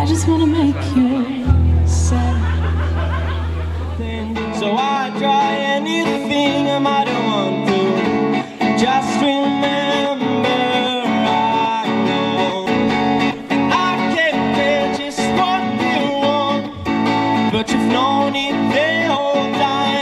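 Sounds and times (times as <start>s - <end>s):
instrumental guitar music: 0.0s - 20.0s.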